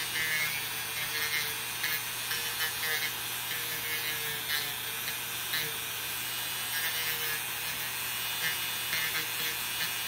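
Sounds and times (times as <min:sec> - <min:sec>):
bit rasping on nail: 0:00.0 - 0:05.8, 0:06.6 - 0:10.0
rotary tool motor whine: 0:00.0 - 0:10.0.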